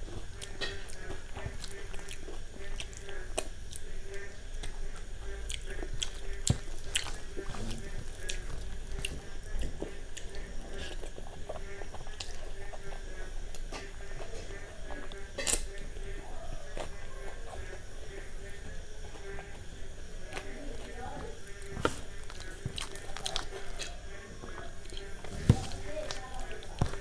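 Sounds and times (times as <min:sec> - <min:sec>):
wet chewing and smacking: 0:00.0 - 0:27.0.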